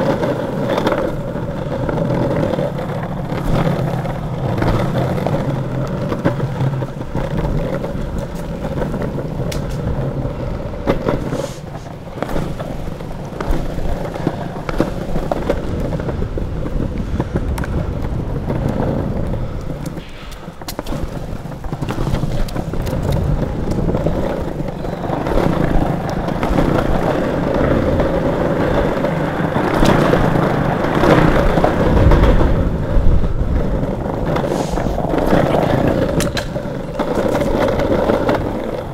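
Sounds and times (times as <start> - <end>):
longboard wheels rolling on pavement: 0.0 - 38.9.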